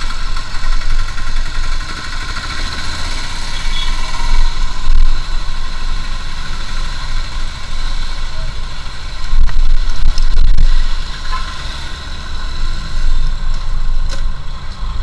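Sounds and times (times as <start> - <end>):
motorcycle riding with low rumble: 0.0 - 15.0.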